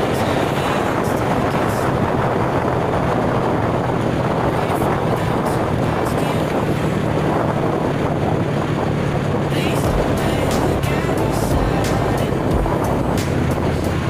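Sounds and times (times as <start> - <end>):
constant low hum: 0.0 - 14.0
vehicle engine and road noise: 0.0 - 14.0
wind on microphone: 0.0 - 14.0.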